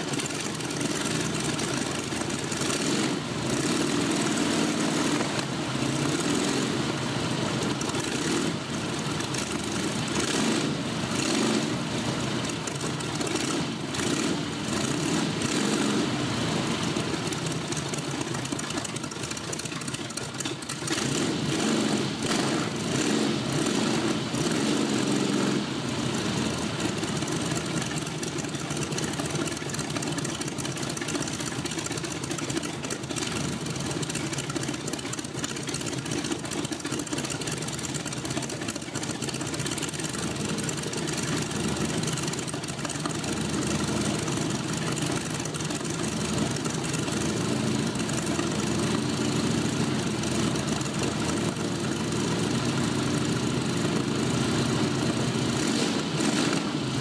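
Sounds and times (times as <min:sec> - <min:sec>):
propeller aircraft engine idling: 0:00.0 - 0:57.0.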